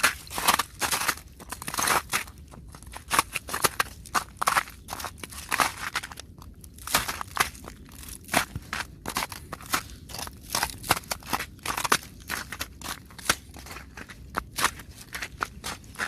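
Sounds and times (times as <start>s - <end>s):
icy snow crunching taps: 0.0s - 16.0s.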